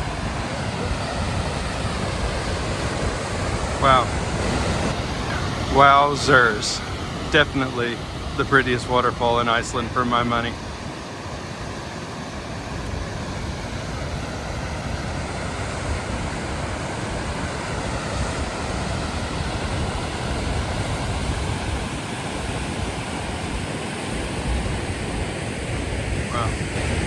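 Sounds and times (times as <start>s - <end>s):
waterfall roaring: 0.0s - 27.0s
wind gusts on microphone: 0.0s - 27.0s.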